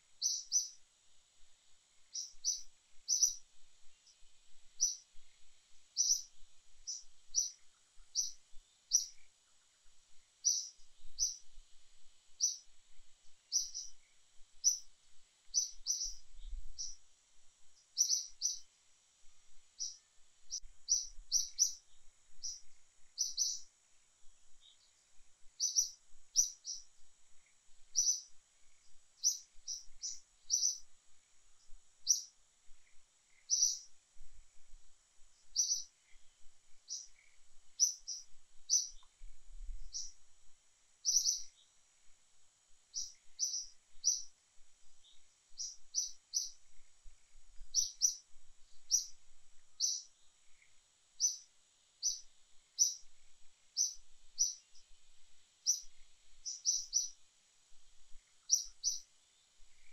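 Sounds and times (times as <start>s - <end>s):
small bird chirping: 0.0s - 40.2s, 40.9s - 59.9s
faint high hiss: 0.0s - 59.9s.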